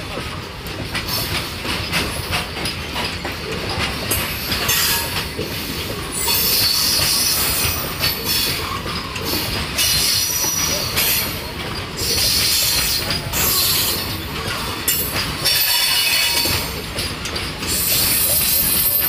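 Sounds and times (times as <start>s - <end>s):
freight wagons rumbling on rails: 0.0s - 19.0s.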